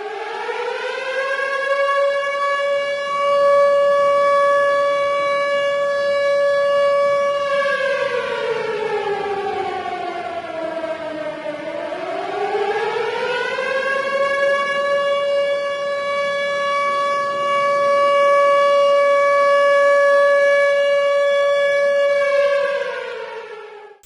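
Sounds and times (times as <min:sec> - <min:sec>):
air raid siren wailing: 0:00.0 - 0:24.0.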